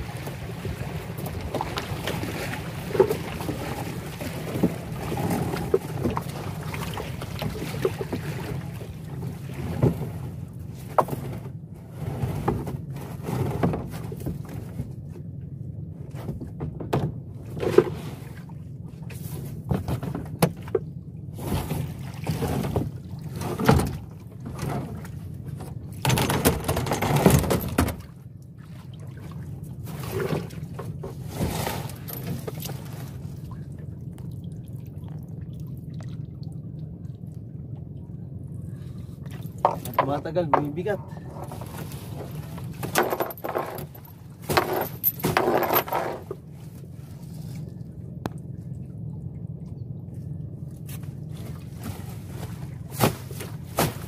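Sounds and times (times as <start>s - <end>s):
knocks and thumps against hull: 0.0s - 15.3s, 15.9s - 33.6s, 39.2s - 48.5s, 50.7s - 54.0s
wind and water wash: 0.0s - 54.0s.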